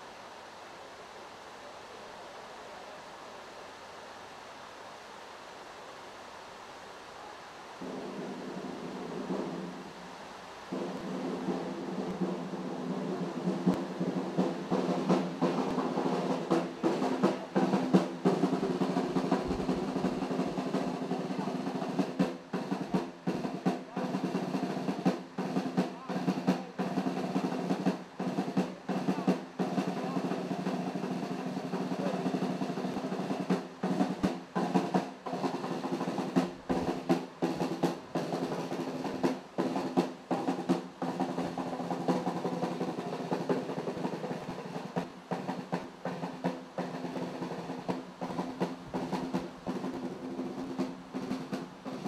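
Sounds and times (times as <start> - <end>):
snare drum beating: 7.8 - 9.7, 10.7 - 52.0.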